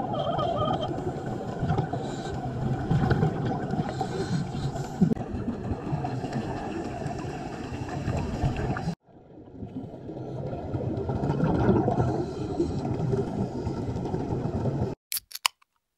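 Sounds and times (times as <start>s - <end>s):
underwater water noise: 0.0s - 15.0s.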